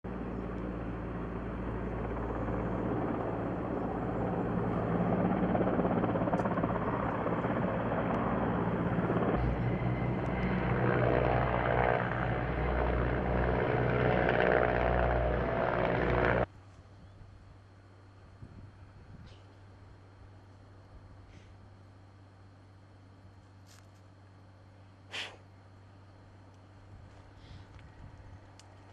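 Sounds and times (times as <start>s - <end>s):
helicopter rotor drone: 0.1s - 23.4s.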